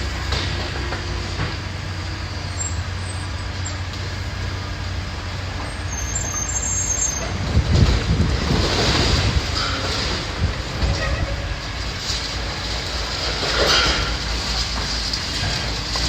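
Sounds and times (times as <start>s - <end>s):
diesel engine humming: 0.0s - 16.0s
outdoor machine noise: 0.0s - 16.0s.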